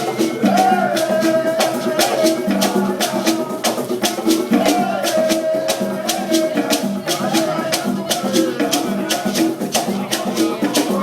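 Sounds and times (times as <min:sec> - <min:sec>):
person singing long notes: 0:00.0 - 0:09.4
rattles or shakers: 0:00.0 - 0:11.0.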